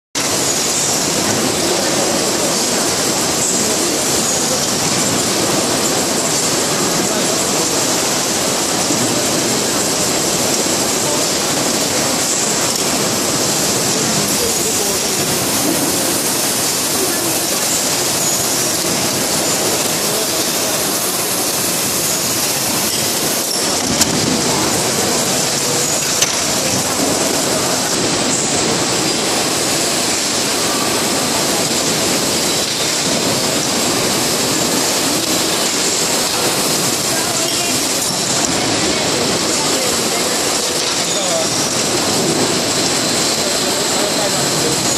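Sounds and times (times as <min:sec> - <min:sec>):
high hiss: 0:00.2 - 0:44.9
packing machine din: 0:00.2 - 0:44.9.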